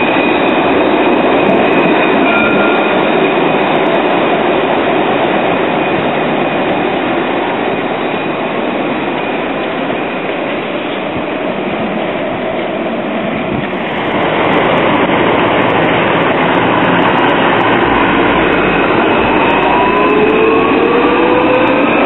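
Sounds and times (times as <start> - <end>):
tram wheels on rail: 0.0 - 22.0.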